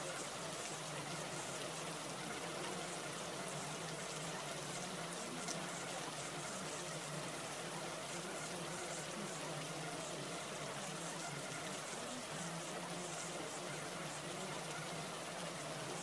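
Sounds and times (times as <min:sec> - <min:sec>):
faint low hum: 0:00.0 - 0:16.0
water-like rushing noise: 0:00.0 - 0:16.0.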